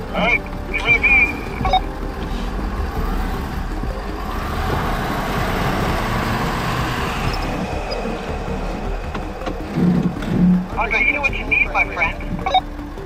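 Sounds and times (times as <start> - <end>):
diesel truck engine under load: 0.0 - 13.0
rushing noise: 0.0 - 13.0.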